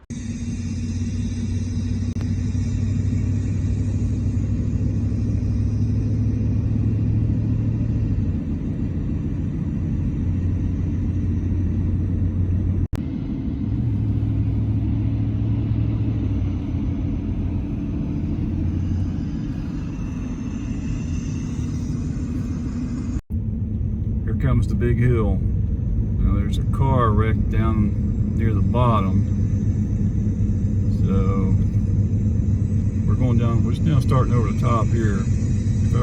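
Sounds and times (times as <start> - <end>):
car engine and road rumble: 0.0 - 36.0.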